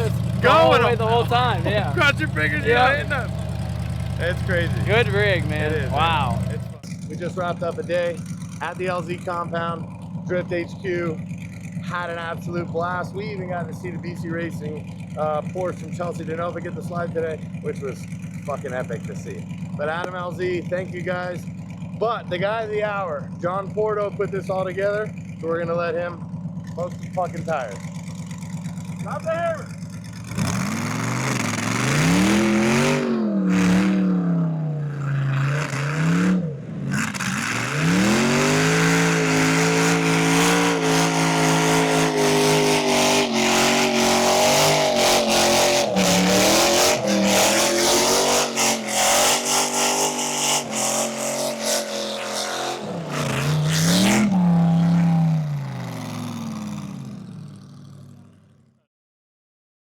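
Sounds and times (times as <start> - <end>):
car engine revving: 0.0 - 22.9, 24.4 - 58.4.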